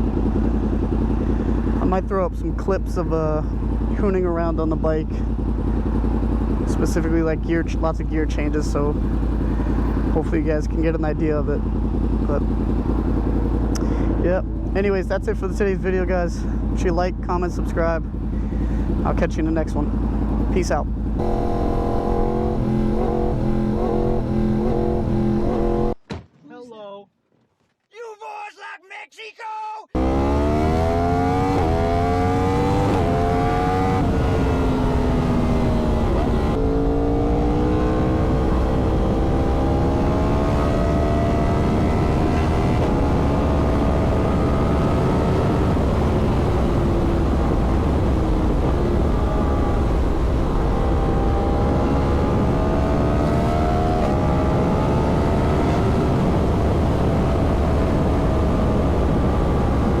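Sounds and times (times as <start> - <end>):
motorcycle engine upshifting: 0.0 - 1.9, 3.4 - 10.4, 11.5 - 14.8, 17.6 - 26.4, 30.0 - 60.0.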